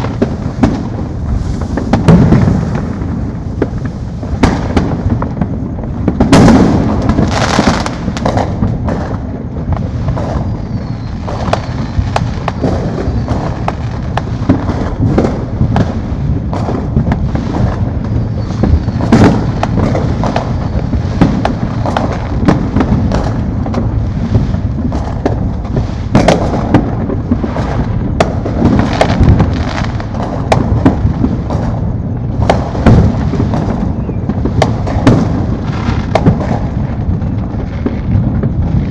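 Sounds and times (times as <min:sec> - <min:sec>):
distant explosions rumbling: 0:00.0 - 0:38.9
fireworks popping and booming: 0:00.0 - 0:38.9.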